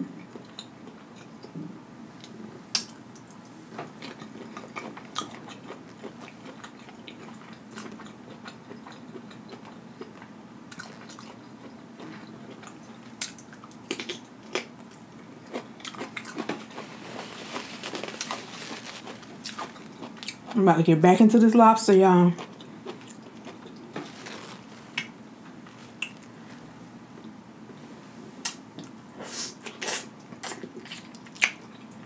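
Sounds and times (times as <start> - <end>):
person chewing food: 2.2 - 20.6, 22.4 - 27.4, 29.6 - 32.0.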